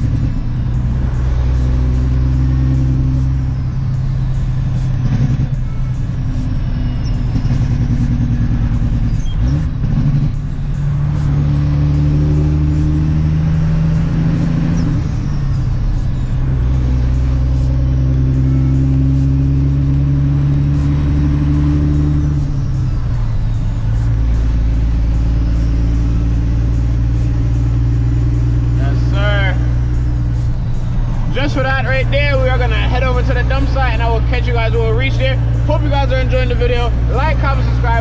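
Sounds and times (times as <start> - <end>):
truck diesel engine changing gears: 0.0 - 38.0.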